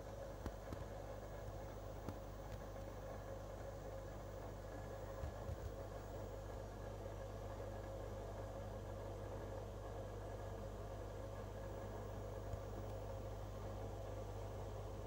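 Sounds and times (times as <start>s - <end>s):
aquarium pump humming and hissing: 0.0s - 15.0s.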